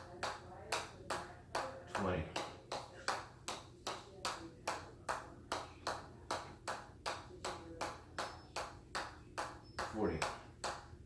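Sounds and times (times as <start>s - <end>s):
ball bouncing on hammer head: 0.0s - 11.0s.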